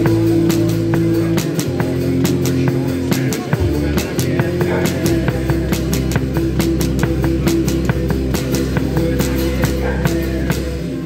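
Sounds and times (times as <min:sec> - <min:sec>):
drum kit steady beat: 0:00.0 - 0:11.0
electric guitar: 0:00.0 - 0:11.0.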